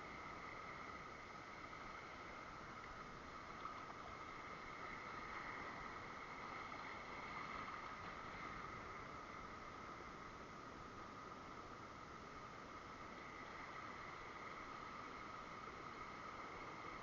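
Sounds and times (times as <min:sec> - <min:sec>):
faint even hiss: 0:00.0 - 0:17.0.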